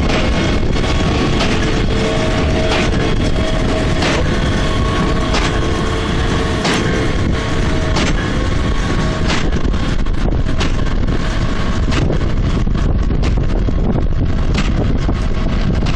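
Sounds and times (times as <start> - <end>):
tractor and baler running: 0.0 - 15.9
wind buffeting microphone: 0.0 - 15.9.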